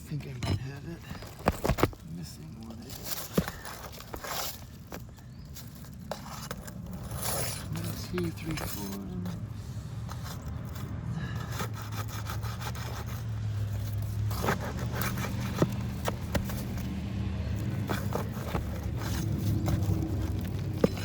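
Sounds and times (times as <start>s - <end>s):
tool scraping roof shingles: 0.0s - 21.0s.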